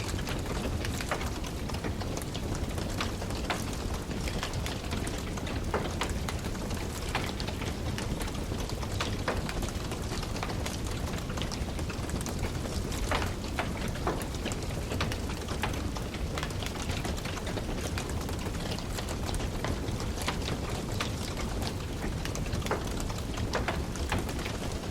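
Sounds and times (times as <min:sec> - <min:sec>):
fire crackling and popping: 0:00.0 - 0:24.9
fire flames rumbling: 0:00.0 - 0:24.9.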